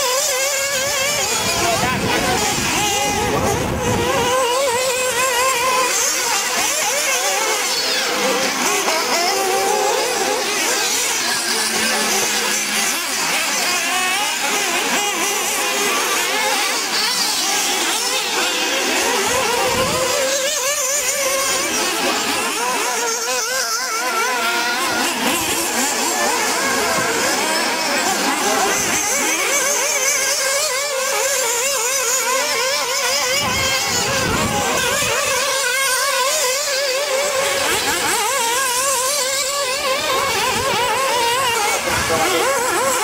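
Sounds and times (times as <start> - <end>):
rc car engines whining: 0.0 - 43.0.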